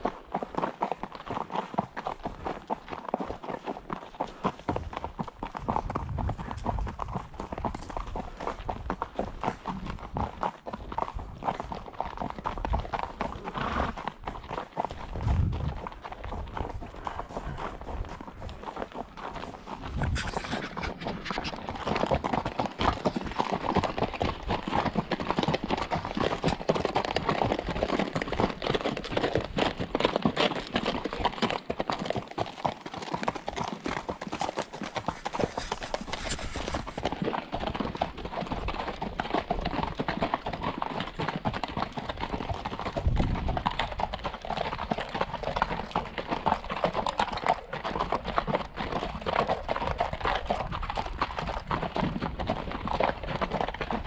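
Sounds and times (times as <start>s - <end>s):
horse hooves clopping: 0.0s - 54.0s.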